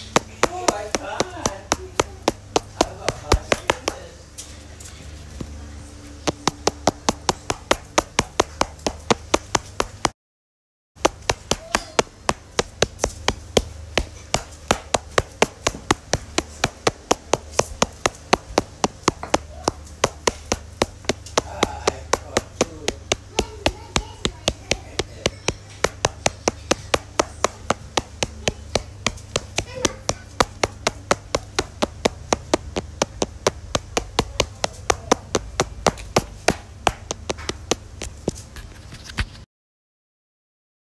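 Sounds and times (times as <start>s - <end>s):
sharp taps: 0.0s - 4.2s, 5.4s - 10.2s, 11.0s - 38.5s.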